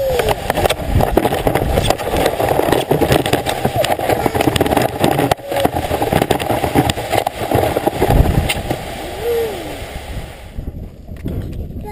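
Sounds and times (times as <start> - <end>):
sledge scraping over snow: 0.0 - 11.6.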